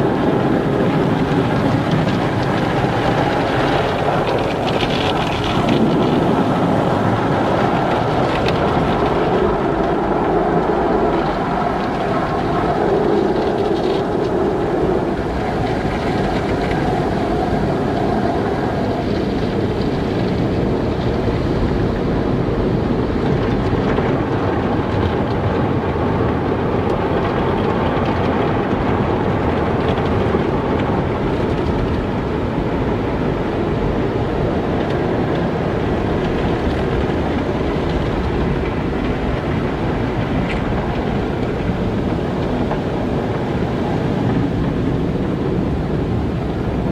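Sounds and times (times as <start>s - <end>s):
car wash machinery rumbling: 0.0s - 46.9s.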